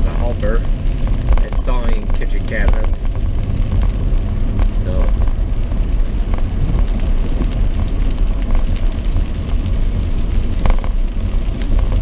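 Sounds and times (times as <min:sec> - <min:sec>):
rain on windshield: 0:00.0 - 0:12.0
vehicle rumble on wet road: 0:00.0 - 0:12.0.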